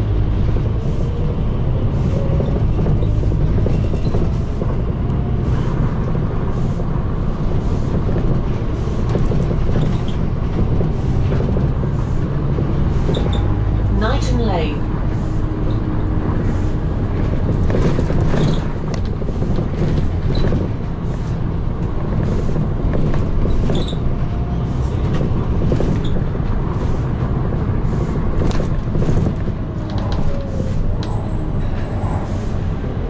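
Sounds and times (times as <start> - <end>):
bus engine drone: 0.0 - 33.0
road noise: 0.0 - 33.0
bodywork clicks and rattles: 2.1 - 6.4, 7.8 - 13.9, 15.6 - 32.2.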